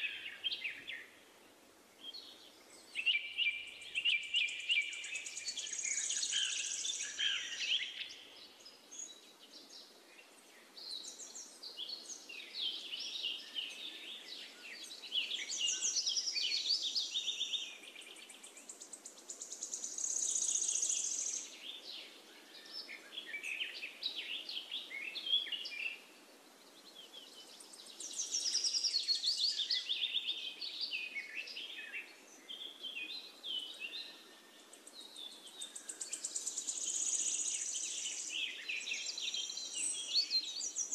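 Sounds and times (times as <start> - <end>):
faint background noise: 0.0 - 40.9
birds chirping and trilling: 2.0 - 40.9.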